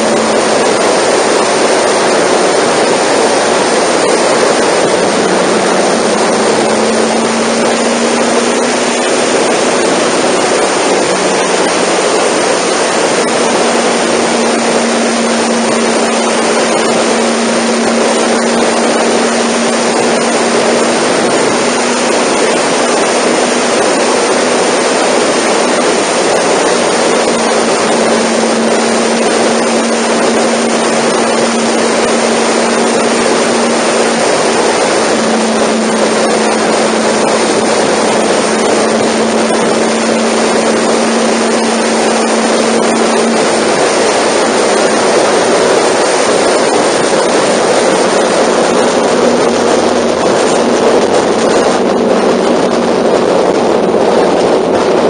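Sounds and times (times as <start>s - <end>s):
motorcycle engine hum: 0.0s - 55.0s
wind rush over microphone: 0.0s - 55.0s.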